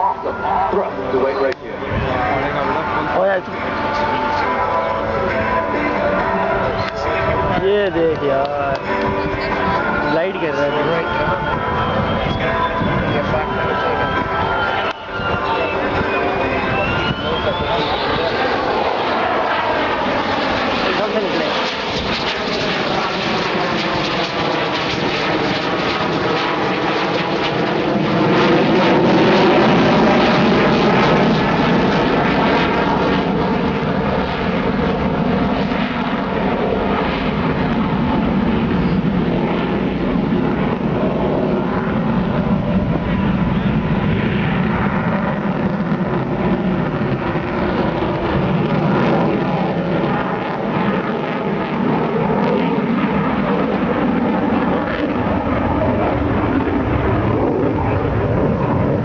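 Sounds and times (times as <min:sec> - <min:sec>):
jet engine rushing overhead: 0:00.0 - 0:59.0.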